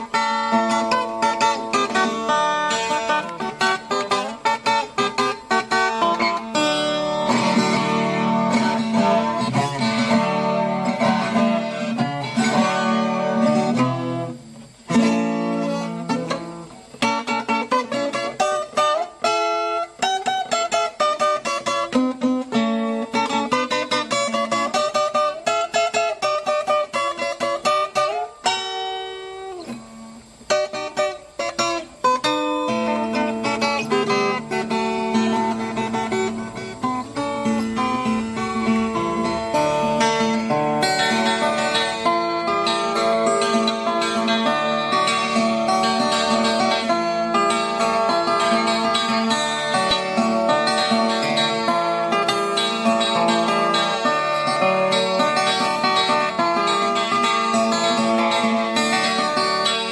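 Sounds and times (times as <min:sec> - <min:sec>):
plucked and strummed guitar: 0:00.0 - 0:59.9.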